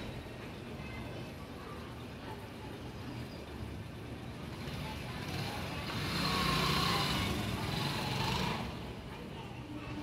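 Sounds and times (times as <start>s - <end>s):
road vehicle rumble and hiss: 0.0s - 10.0s.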